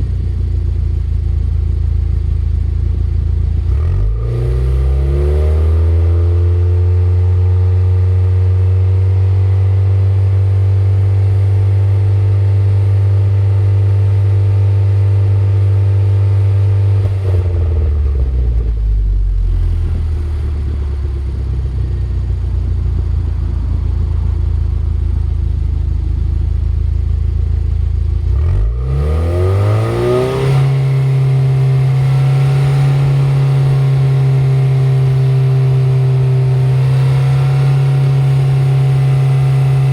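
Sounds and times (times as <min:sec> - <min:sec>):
car engine revving: 0:03.4 - 0:07.7, 0:08.4 - 0:39.9.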